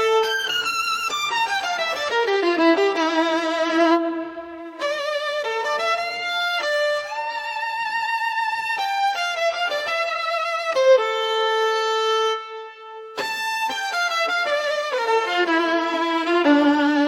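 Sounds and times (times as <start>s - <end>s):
violin slow melody: 0.0s - 17.0s.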